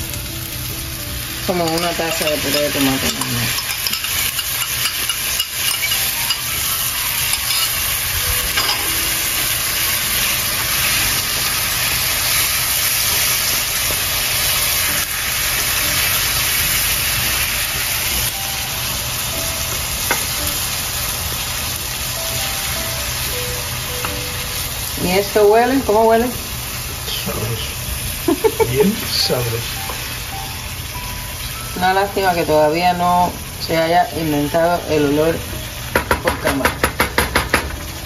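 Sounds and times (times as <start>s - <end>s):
sauce sizzling in a pan: 0.0s - 38.0s.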